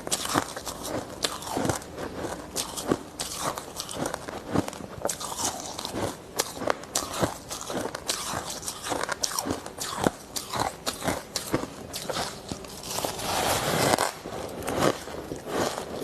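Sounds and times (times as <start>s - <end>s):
ice being chewed and crunched: 0.0s - 16.0s.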